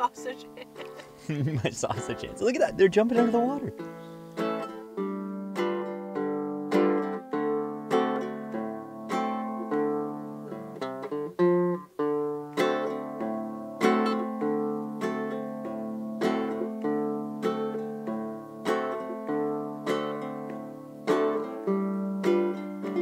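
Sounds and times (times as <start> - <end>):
fingerpicked acoustic guitar: 0.0 - 23.0.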